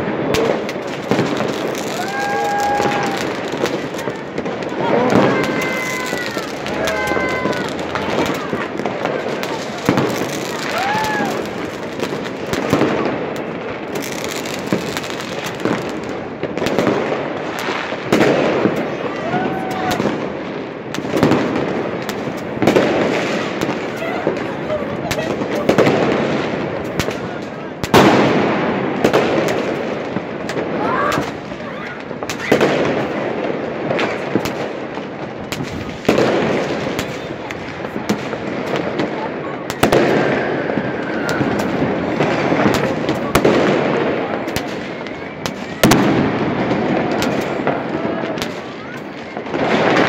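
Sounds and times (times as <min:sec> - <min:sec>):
fireworks crackling and popping: 0:00.0 - 0:50.0
loud firework bangs: 0:00.0 - 0:50.0.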